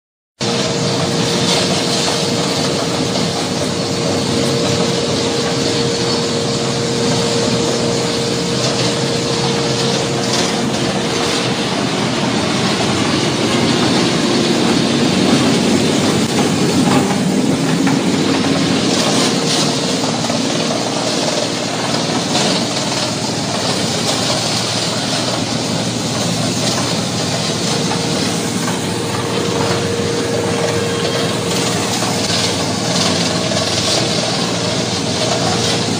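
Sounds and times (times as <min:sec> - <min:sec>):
branch shredder droning: 0:00.4 - 0:35.9
hum: 0:00.4 - 0:35.9.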